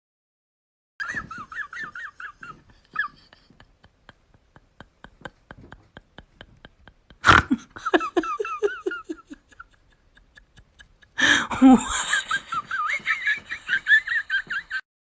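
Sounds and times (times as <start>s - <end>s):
high-pitched squealing laughter: 1.0s - 14.7s
person laughing: 1.0s - 14.8s.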